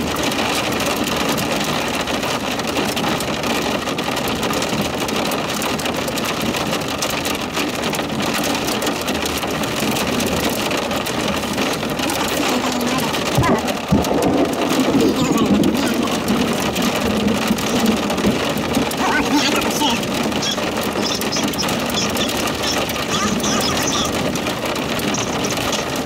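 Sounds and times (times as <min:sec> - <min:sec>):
rain on vehicle windshield: 0:00.0 - 0:26.0.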